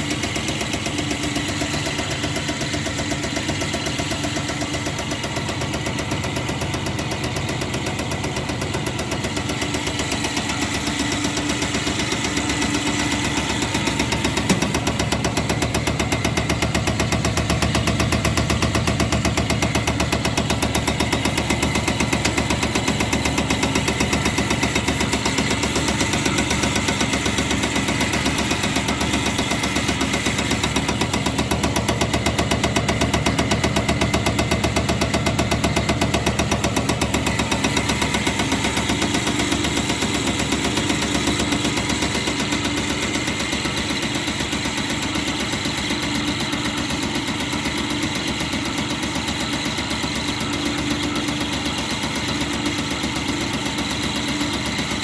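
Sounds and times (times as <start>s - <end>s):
injector rapid ticking: 0.0s - 55.0s
pump motor running: 0.0s - 55.0s.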